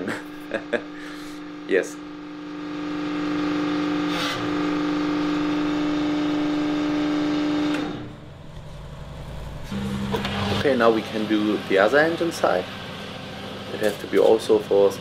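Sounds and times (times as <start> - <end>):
hydraulic press humming: 0.6 - 14.6.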